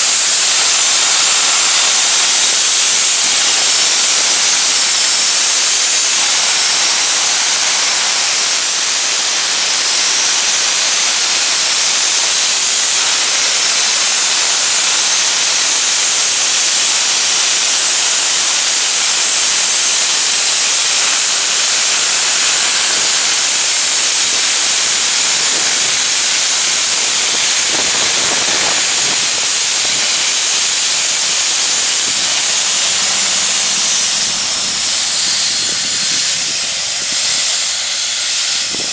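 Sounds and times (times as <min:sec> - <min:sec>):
steam locomotive hissing: 0:00.0 - 0:38.9.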